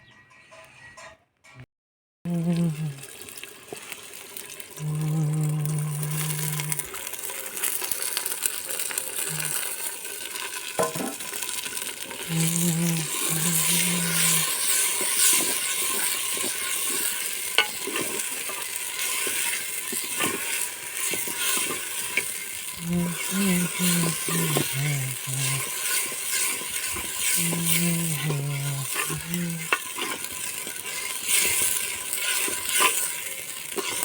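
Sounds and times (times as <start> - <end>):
chicken sizzling in a pot: 2.3 - 34.0.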